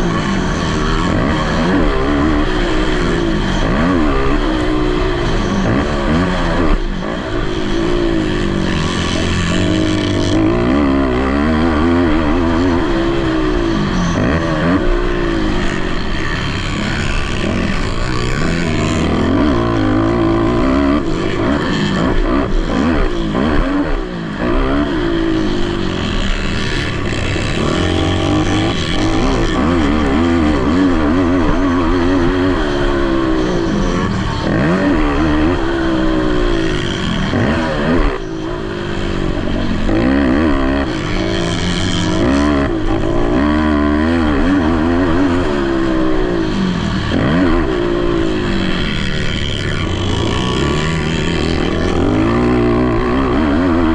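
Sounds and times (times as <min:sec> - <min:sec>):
quad engines revving: 0:00.0 - 0:53.9.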